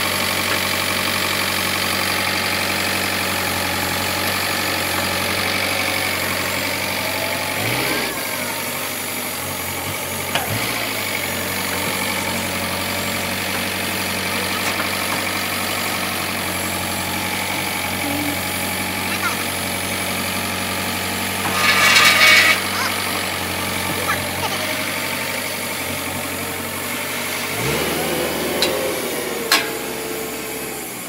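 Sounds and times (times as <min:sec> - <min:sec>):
forklift engine idling: 0:00.0 - 0:31.0.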